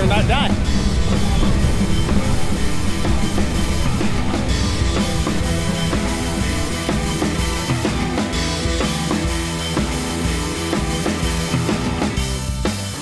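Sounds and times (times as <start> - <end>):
drum kit playing a steady beat: 0.0 - 13.0
rock music: 0.0 - 13.0.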